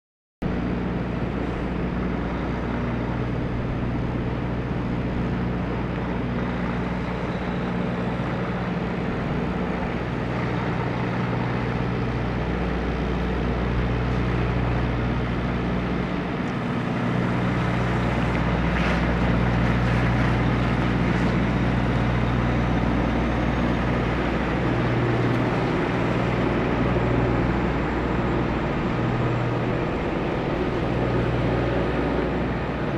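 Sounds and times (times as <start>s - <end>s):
truck diesel engine running: 0.5s - 32.9s.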